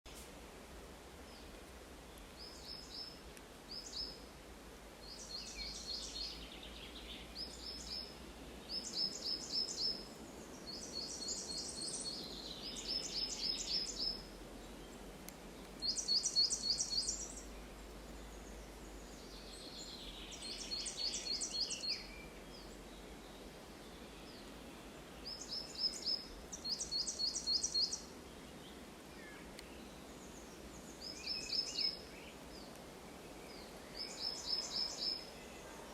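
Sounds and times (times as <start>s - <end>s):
steady background hiss: 0.1s - 35.9s
lower bird calls: 5.0s - 15.0s, 15.8s - 35.9s.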